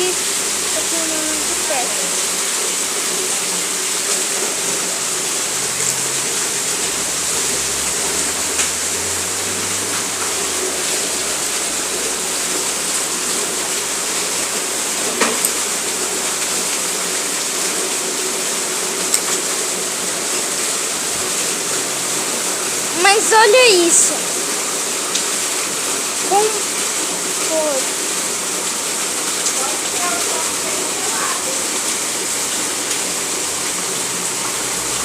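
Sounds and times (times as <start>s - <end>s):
rainwater pouring: 0.0s - 35.0s.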